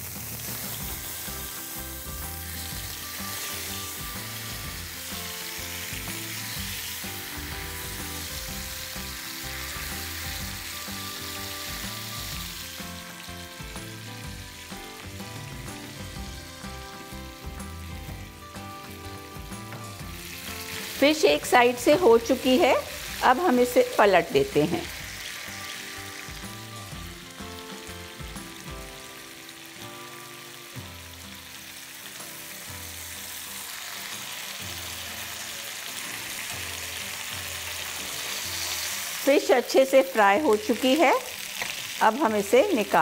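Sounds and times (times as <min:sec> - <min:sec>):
fish sizzling in oil: 0:00.0 - 0:43.0.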